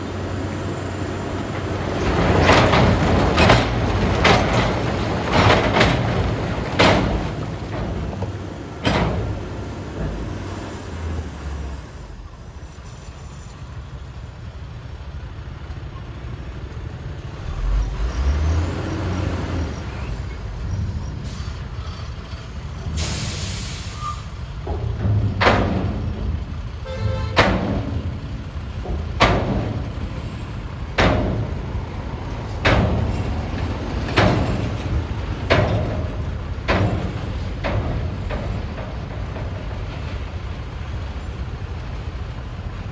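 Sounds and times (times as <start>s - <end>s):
construction machinery rumbling: 0.0s - 42.9s.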